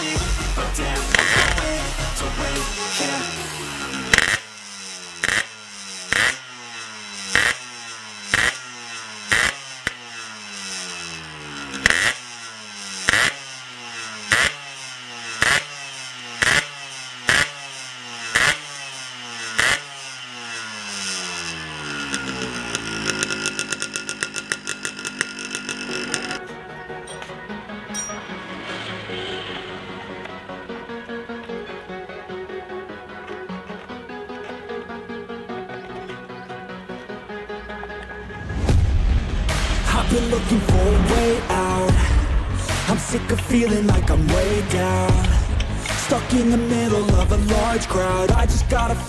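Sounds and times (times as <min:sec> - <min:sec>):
two-stroke motorcycle engine revving: 0:00.0 - 0:49.0.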